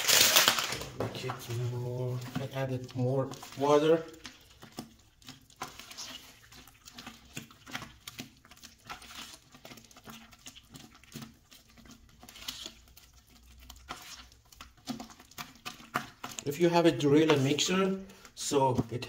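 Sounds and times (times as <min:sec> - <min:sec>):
plaster stirred in plastic bucket: 0:00.0 - 0:19.0.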